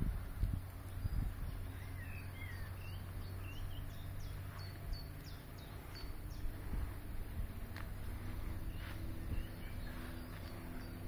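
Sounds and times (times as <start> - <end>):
songbirds chirping: 0.0 - 11.0
steady low rumble: 0.0 - 11.0.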